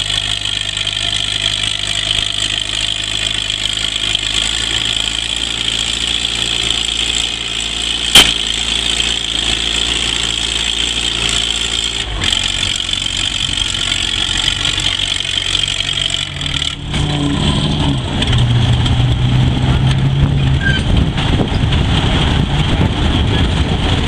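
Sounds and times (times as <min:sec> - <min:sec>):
tractor engine under load: 0:00.0 - 0:24.0.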